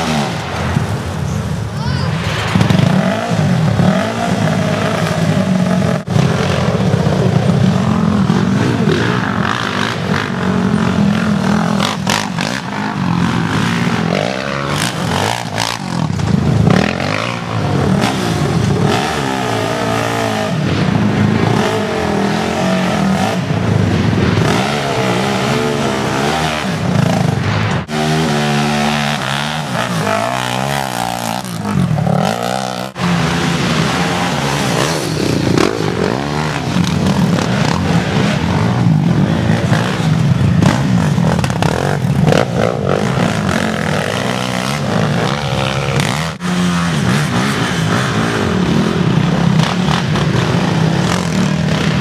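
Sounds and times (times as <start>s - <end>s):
atv engine revving: 0.0s - 1.0s, 2.3s - 52.0s.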